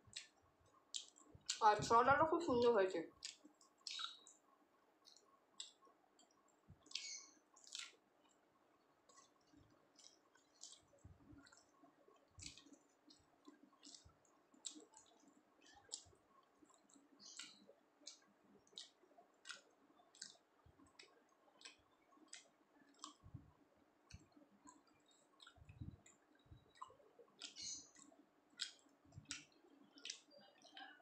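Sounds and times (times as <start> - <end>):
close-up chewing: 0.0 - 1.6, 2.6 - 4.4, 5.0 - 31.0
wet mouth smacks and lip clicks: 0.1 - 1.6, 3.2 - 4.4, 5.0 - 8.4, 9.1 - 23.4, 24.1 - 31.0.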